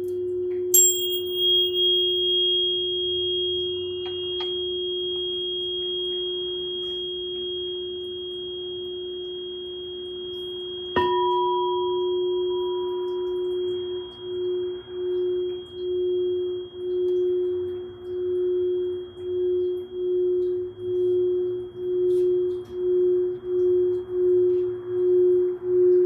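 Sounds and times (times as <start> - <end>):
singing bowl ringing: 0.0 - 26.0
steady low hum: 0.0 - 26.0
singing bowl strike: 0.5 - 26.0.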